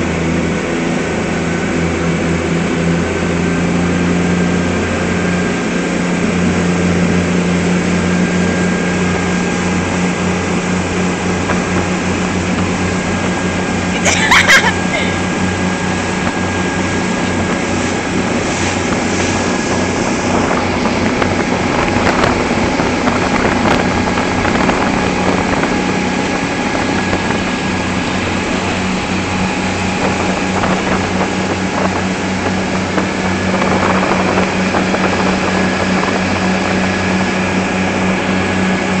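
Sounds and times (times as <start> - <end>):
motorboat engine running: 0.0 - 39.0
water rushing past hull: 0.0 - 39.0
wind buffeting microphone: 4.2 - 39.0.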